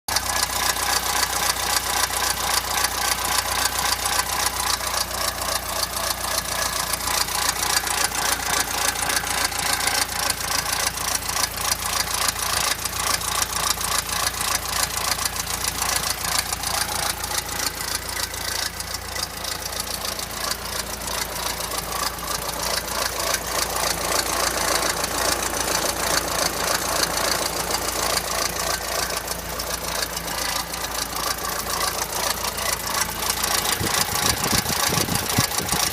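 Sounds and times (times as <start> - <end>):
car engine idling with clatter: 0.1 - 35.9.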